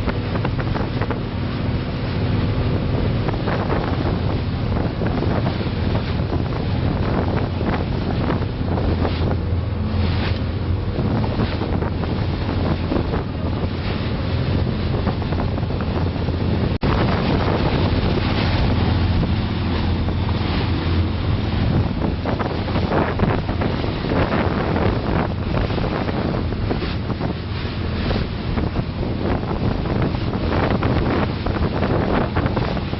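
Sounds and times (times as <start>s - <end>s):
boat engine humming: 0.0s - 32.9s
water rushing past hull: 0.0s - 32.9s
wind buffeting microphone: 0.0s - 32.9s.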